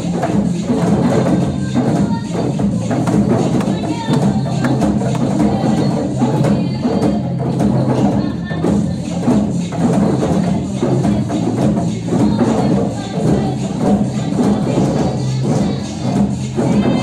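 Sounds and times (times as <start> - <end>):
drumming ensemble playing: 0.0 - 17.0.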